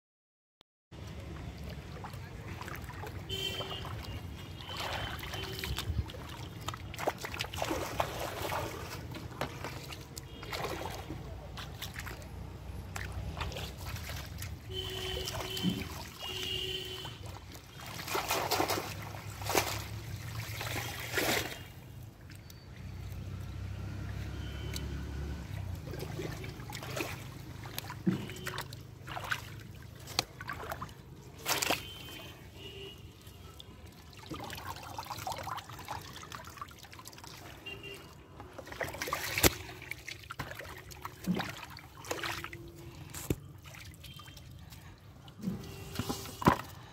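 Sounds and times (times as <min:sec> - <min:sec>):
river water splashing and sloshing: 0:01.0 - 0:46.9.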